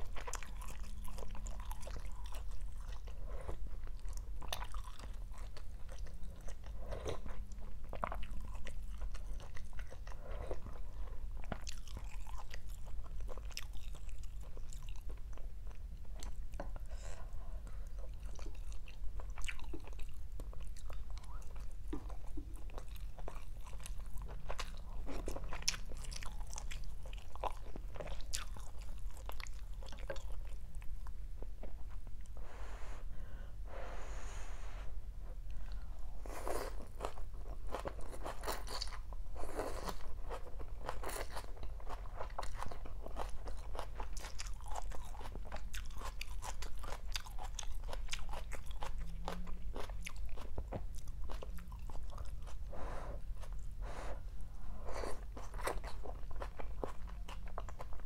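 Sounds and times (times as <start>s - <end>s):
crunching and chewing greens: 0.0s - 32.4s, 35.5s - 54.2s, 54.9s - 58.0s.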